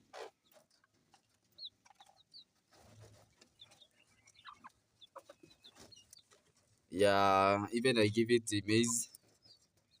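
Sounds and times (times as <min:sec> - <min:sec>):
chickens clucking: 0:00.0 - 0:10.0
chicks peeping: 0:00.0 - 0:10.0.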